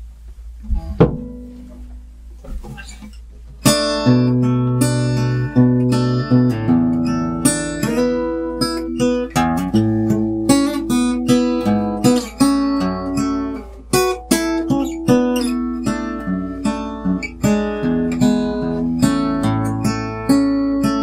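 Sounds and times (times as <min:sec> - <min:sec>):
acoustic guitar picked and strummed: 0:00.1 - 0:21.0.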